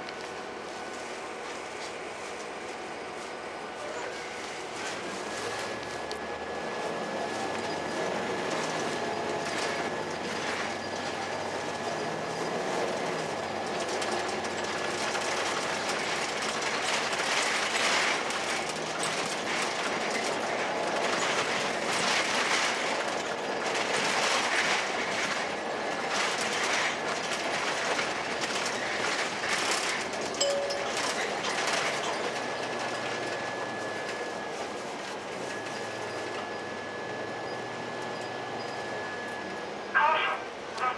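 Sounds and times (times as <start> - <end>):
bus body rattling: 0.0 - 39.4
bus diesel engine running: 0.0 - 40.9.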